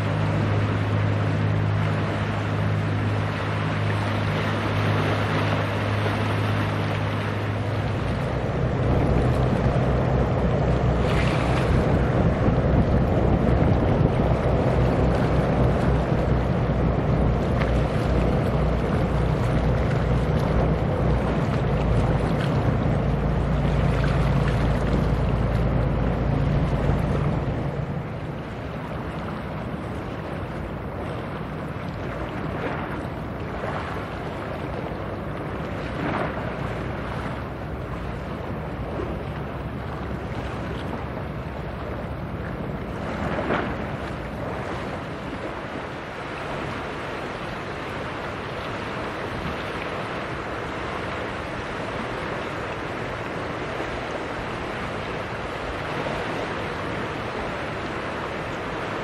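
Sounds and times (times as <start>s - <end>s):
sea waves washing: 0.0s - 59.0s
ship engine droning: 0.0s - 59.0s
wind on microphone: 0.0s - 59.0s.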